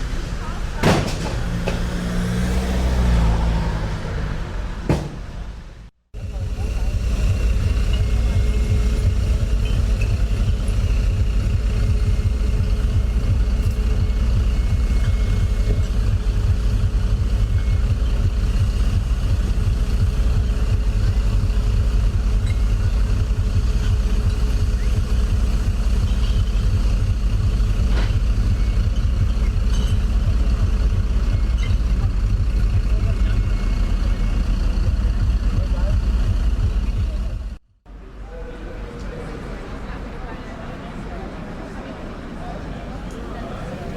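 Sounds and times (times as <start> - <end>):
vehicle engine rumble: 0.0 - 43.9.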